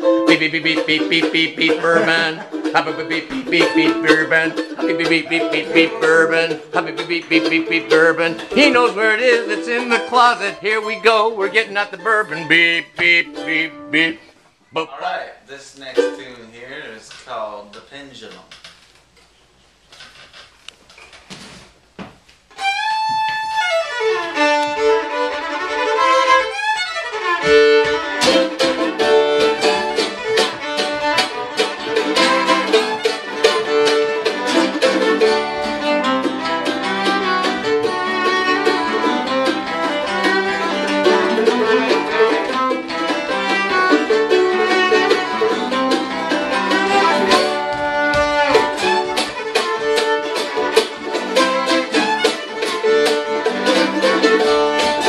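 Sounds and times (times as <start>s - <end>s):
fiddle with sliding notes: 0.0s - 14.4s, 15.8s - 16.7s, 22.5s - 55.0s
strummed acoustic guitar: 0.0s - 14.4s, 24.7s - 55.0s.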